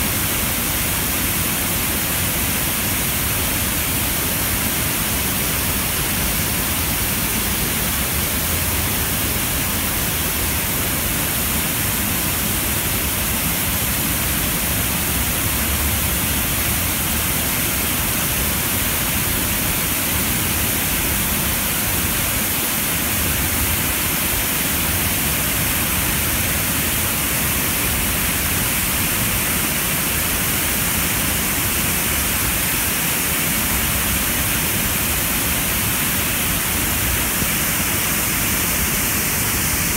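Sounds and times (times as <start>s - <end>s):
water rushing through dam gates: 0.1s - 39.9s.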